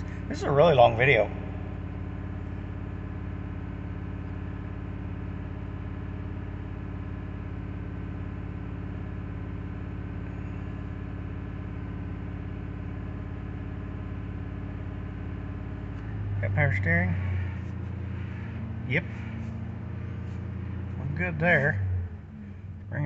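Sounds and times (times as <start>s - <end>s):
engine droning at steady revs: 0.0s - 23.0s.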